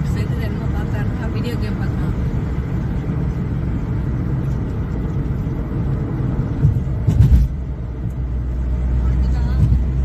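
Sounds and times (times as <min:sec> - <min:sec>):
car tyres and engine rumble: 0:00.0 - 0:10.0.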